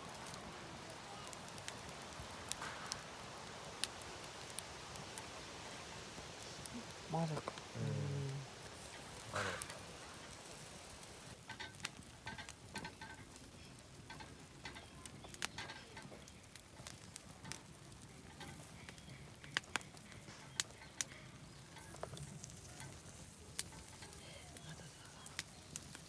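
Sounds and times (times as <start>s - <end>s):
batter sizzling in a pan: 0.0s - 26.0s.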